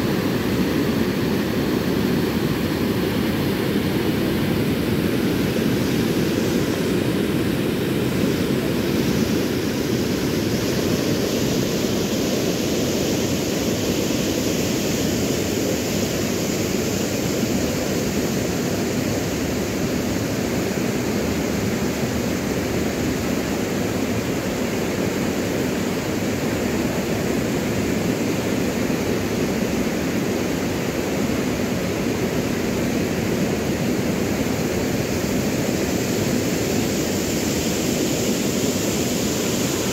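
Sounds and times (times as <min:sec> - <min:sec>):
river rushing over a weir: 0:00.0 - 0:39.9.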